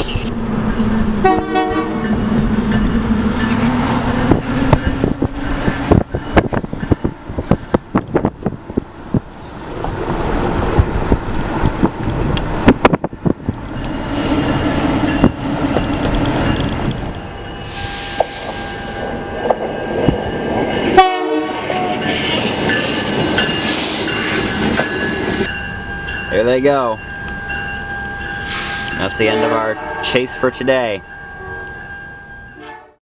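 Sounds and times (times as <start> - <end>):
low locomotive drone: 0.0 - 33.0.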